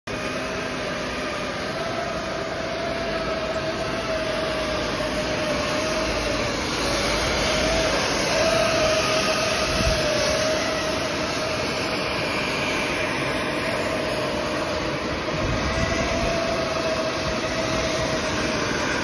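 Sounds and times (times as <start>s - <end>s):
hot air welder blowing: 0.1s - 19.0s
motor whine: 0.1s - 19.0s.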